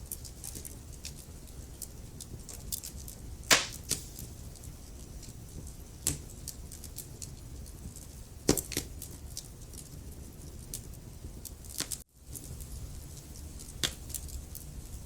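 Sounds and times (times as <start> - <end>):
wood fire rumbling and crackling: 0.0 - 15.0.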